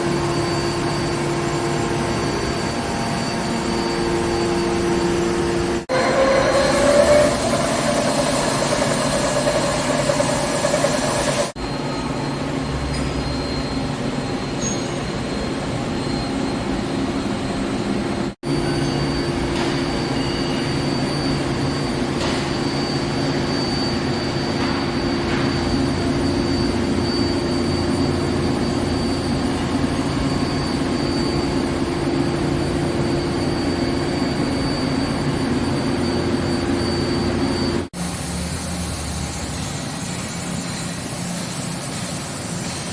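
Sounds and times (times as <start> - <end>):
machine tool humming and whining: 0.0 - 42.9.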